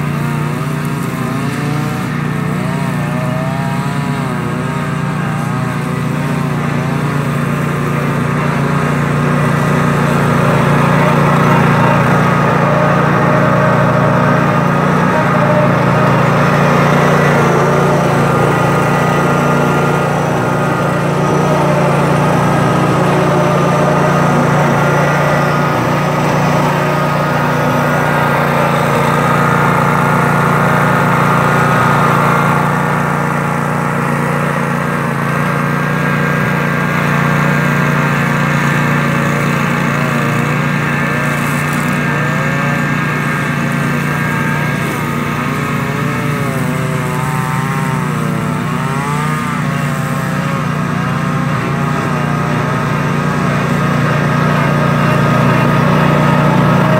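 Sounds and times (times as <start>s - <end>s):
riding lawn mower engines running: 0.0s - 56.9s.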